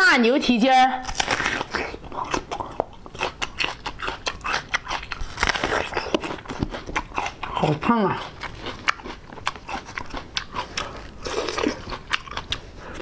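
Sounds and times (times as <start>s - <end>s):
person chewing with wet crunches: 1.0s - 13.0s.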